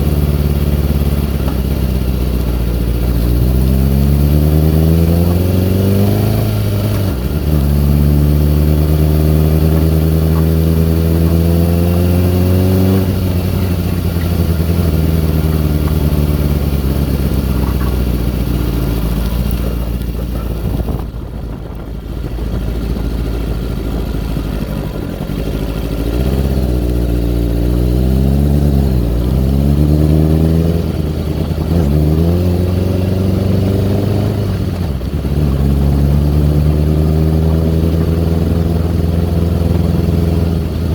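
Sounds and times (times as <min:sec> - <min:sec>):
motorcycle engine running unevenly: 0:00.0 - 0:40.9.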